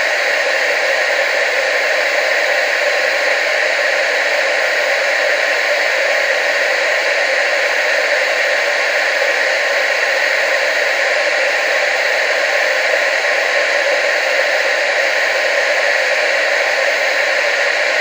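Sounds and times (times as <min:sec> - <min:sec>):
tv static hiss: 0:00.0 - 0:18.0.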